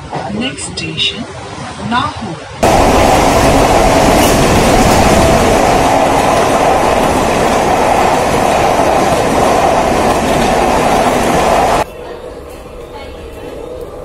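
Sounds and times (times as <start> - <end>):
train wheels rushing on rails: 2.6 - 14.0.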